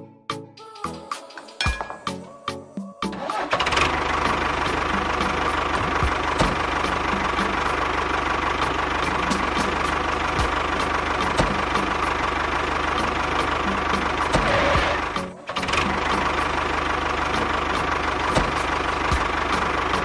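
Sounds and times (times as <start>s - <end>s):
engine idling with knock: 3.3s - 20.0s.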